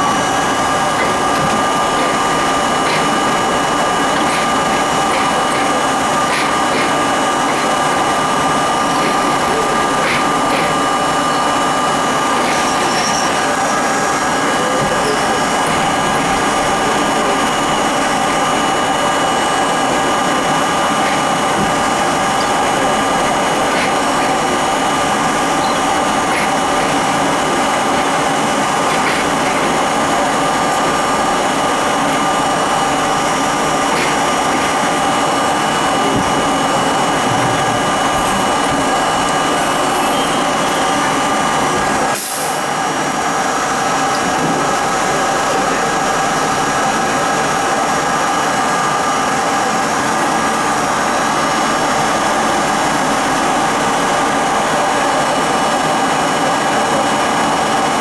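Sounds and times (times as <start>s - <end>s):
train motor whine: 0.0s - 58.0s
wheels rumbling on rail: 0.0s - 58.0s.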